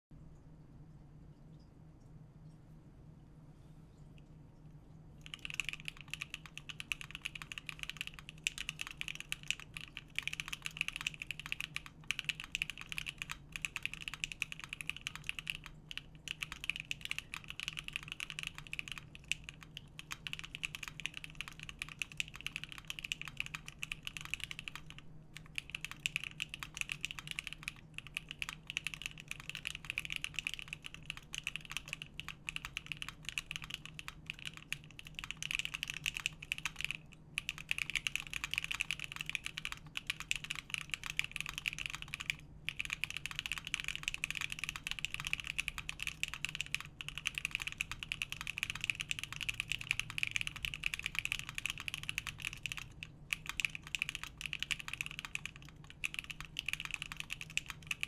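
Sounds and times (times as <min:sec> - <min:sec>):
faint low hum: 0:00.1 - 0:58.0
fast typing on mechanical keyboard: 0:05.2 - 0:58.0.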